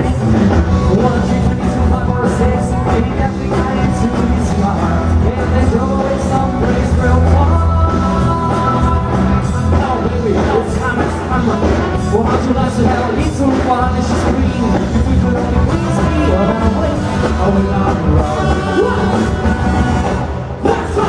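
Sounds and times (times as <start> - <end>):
bass: 0.0 - 21.0
drums: 0.0 - 21.0
person singing: 0.0 - 21.0.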